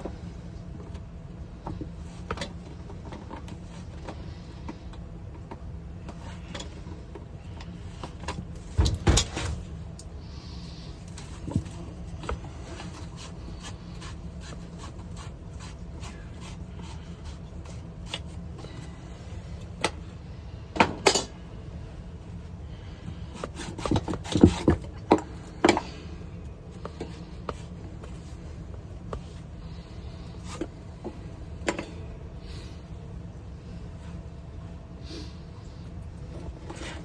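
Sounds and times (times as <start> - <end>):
scraping and rubbing plumbing parts: 0.0 - 37.0
steady low hum: 0.0 - 37.0.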